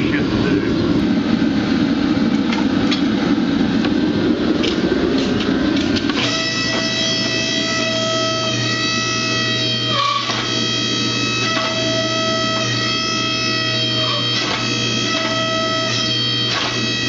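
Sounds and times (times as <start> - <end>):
hydraulic press motor running: 1.0 - 17.0.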